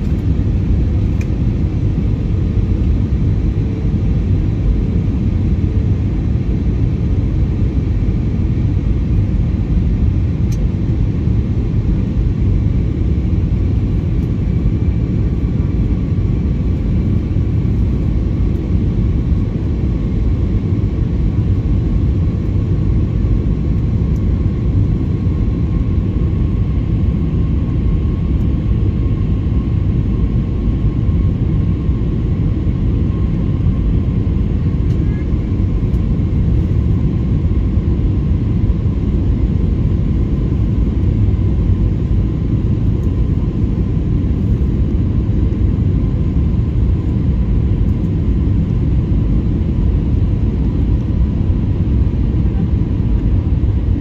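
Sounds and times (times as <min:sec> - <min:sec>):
faint steady whine: 0:00.0 - 0:54.0
low rumble of jet engines: 0:00.0 - 0:54.0.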